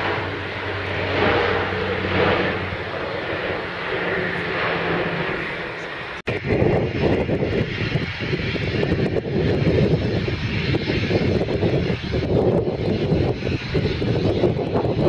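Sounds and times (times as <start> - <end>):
jet engines running: 0.0 - 15.0
turboprop plane overhead: 0.0 - 15.0.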